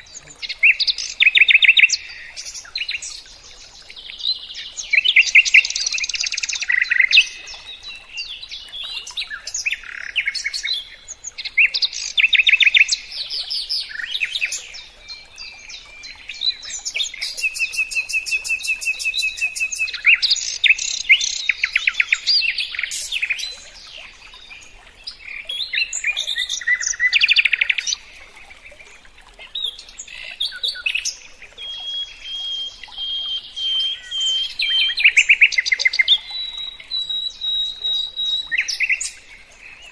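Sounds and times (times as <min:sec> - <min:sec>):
songbird singing trills and whistles: 0:00.0 - 0:28.1, 0:29.4 - 0:39.9.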